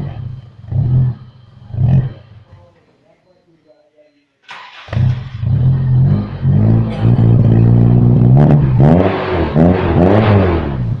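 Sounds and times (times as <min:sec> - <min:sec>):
car engine idling and revving: 0:00.0 - 0:02.5, 0:04.5 - 0:11.0.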